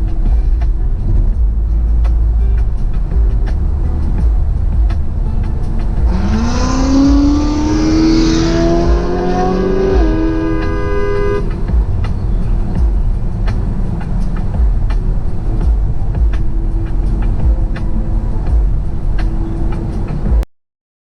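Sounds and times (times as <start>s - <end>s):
car engine revving: 0.0s - 20.3s
road rumble inside car: 0.0s - 20.4s.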